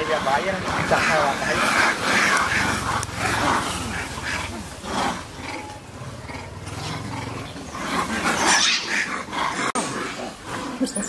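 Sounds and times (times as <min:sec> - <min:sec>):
monkeys crying harshly: 0:00.0 - 0:11.0.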